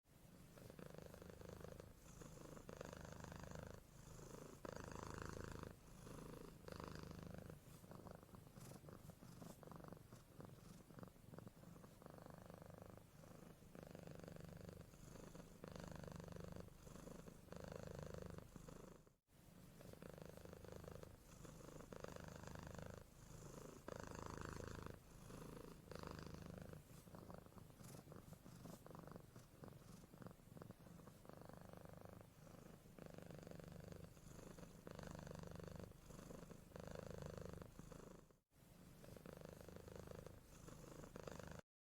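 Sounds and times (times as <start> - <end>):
kitten purring softly: 0.1 - 41.8.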